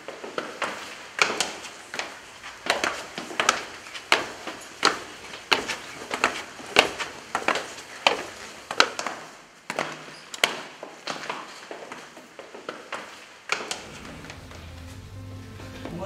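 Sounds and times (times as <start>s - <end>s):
footsteps on stone stairs: 0.0s - 15.1s.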